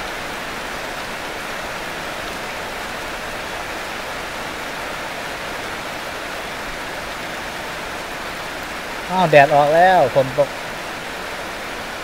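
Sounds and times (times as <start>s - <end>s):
steady rain on plants: 0.0s - 12.0s.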